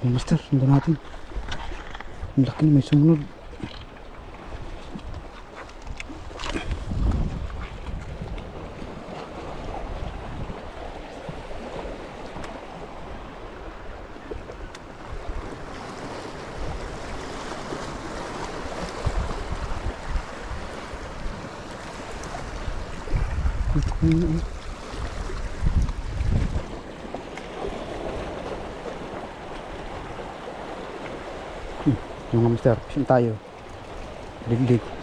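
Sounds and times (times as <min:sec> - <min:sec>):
sea lapping against rocks: 0:00.2 - 0:35.0
wind buffeting microphone: 0:03.3 - 0:32.9.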